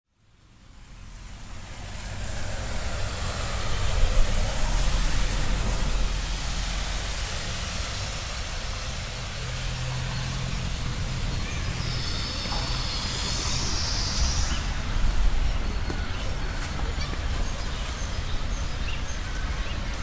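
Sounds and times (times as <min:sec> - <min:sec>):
rain hiss: 0:00.2 - 0:20.0.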